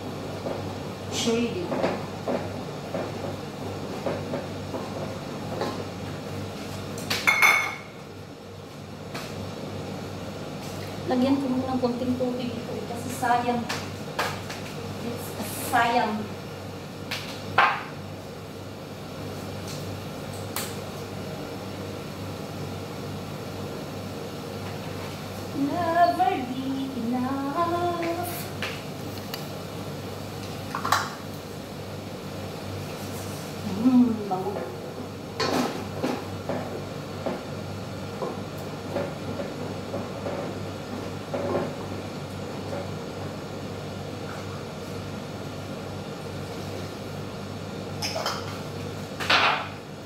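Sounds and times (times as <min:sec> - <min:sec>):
low mechanical hum: 0:00.0 - 0:50.0.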